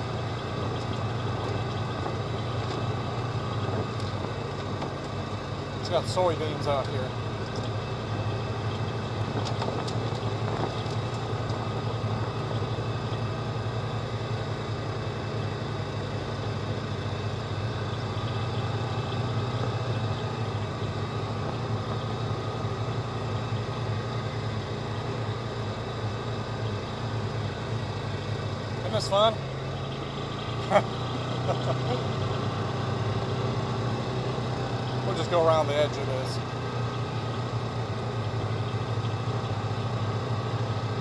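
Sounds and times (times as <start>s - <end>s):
vehicle engine droning: 0.0s - 41.0s.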